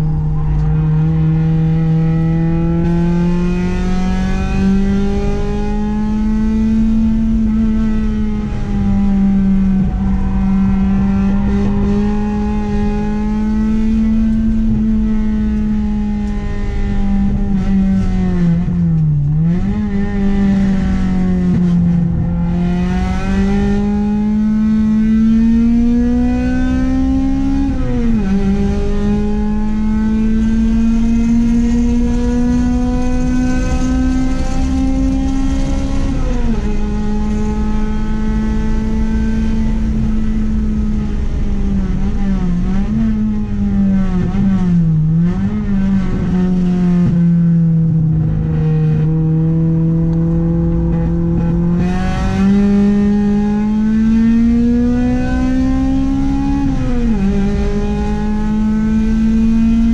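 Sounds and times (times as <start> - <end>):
car engine revving hard: 0.0 - 59.9.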